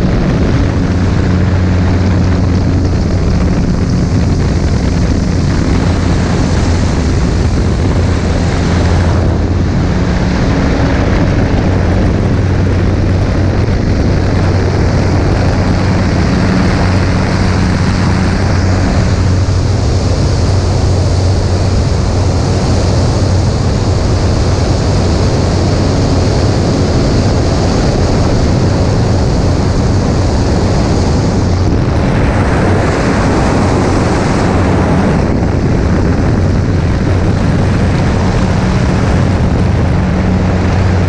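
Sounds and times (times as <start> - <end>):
air rushing over airframe: 0.0 - 41.0
plane engine roaring: 0.0 - 41.0.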